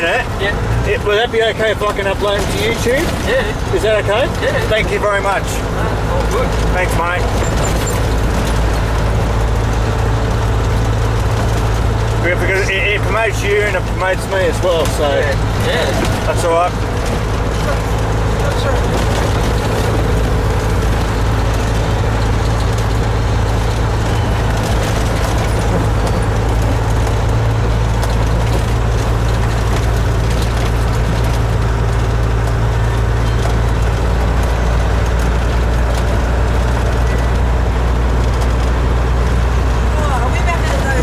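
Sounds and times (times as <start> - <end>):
diesel truck engine droning: 0.0 - 41.0.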